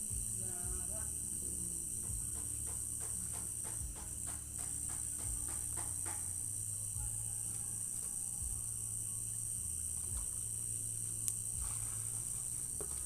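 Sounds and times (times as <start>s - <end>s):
crickets chirring: 0.0s - 13.0s
distant singing or music: 0.0s - 13.0s.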